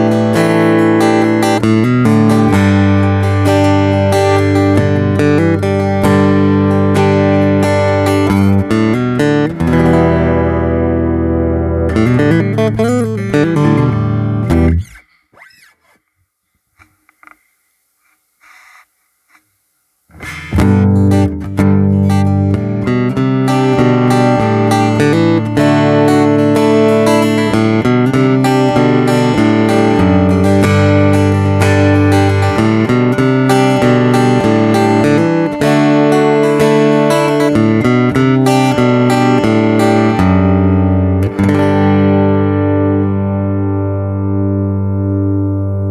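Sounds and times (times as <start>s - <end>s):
quick plucked guitar notes: 0.0s - 15.7s, 20.1s - 45.9s
guitar chords and notes: 0.0s - 15.8s, 20.1s - 45.9s.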